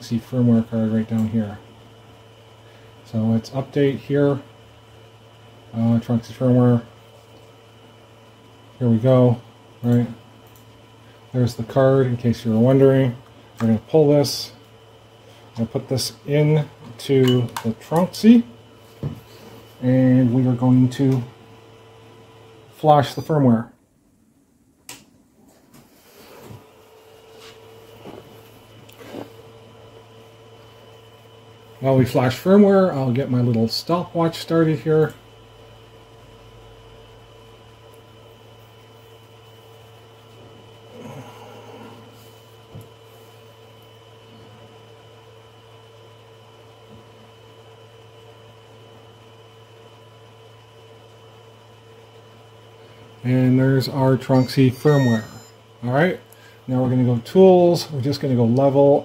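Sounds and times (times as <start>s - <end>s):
three d printer humming: 0.0s - 23.5s, 26.1s - 59.0s.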